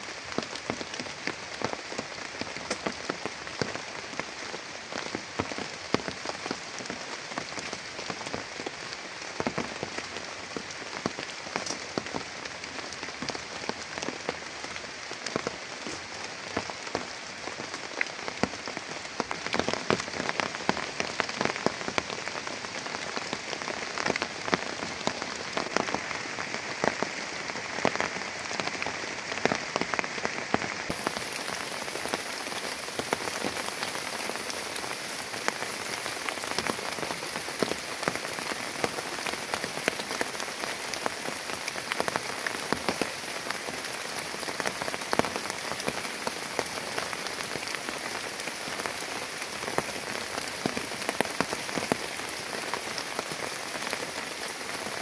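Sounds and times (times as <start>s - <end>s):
heavy rain falling: 0.0s - 55.0s
raindrops striking a surface: 0.0s - 55.0s.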